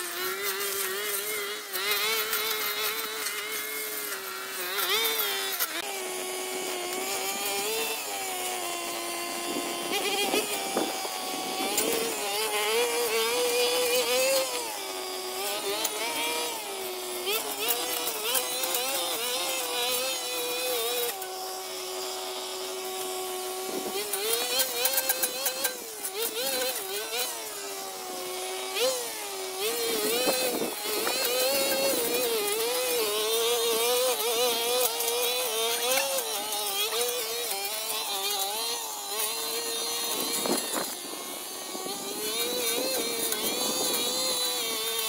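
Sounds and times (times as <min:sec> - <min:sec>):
brush cutter engine running: 0:00.0 - 0:45.0.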